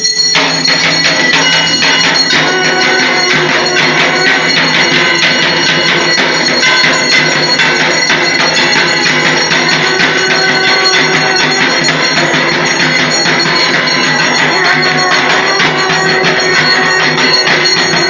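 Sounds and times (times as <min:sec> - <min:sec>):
fast percussion beat: 0:00.0 - 0:18.0
ringing metal bells: 0:00.0 - 0:18.0.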